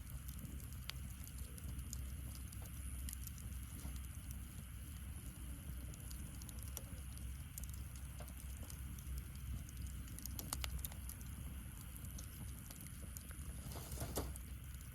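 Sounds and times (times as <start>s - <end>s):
steady low rumble: 0.0s - 14.9s
wood fire crackling and popping: 0.0s - 14.9s.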